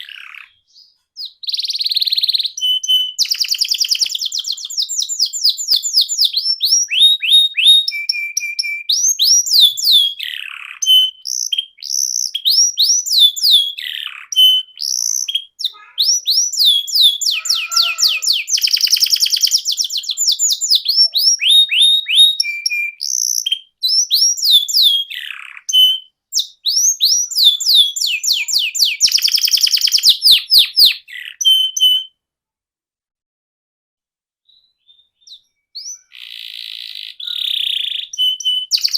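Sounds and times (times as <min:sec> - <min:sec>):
canary singing: 0:00.0 - 0:32.2, 0:34.5 - 0:38.9.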